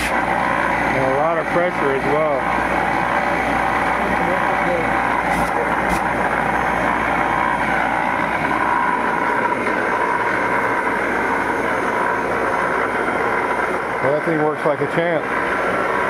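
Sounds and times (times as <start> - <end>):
ring blower rushing air with hum: 0.0 - 16.0.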